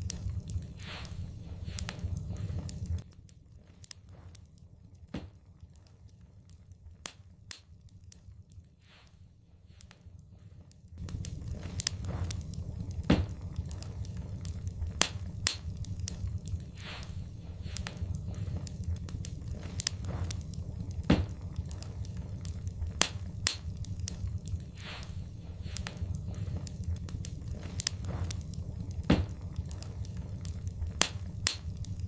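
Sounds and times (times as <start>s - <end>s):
fire crackling with pops: 0.0s - 32.0s
low rumble of burning: 0.0s - 32.0s.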